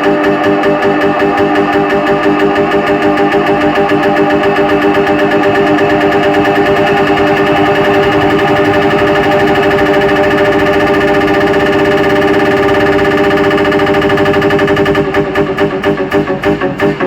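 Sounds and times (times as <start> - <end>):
pulsing buzzy synthesizer drone: 0.0 - 17.0.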